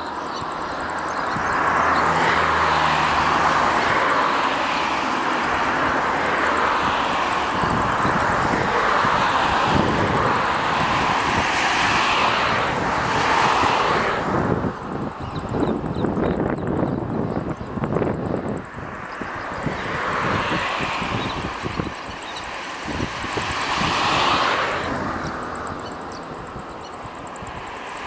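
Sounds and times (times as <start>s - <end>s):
jet engines rushing: 0.0s - 28.0s
wind buffeting microphone: 0.0s - 28.0s.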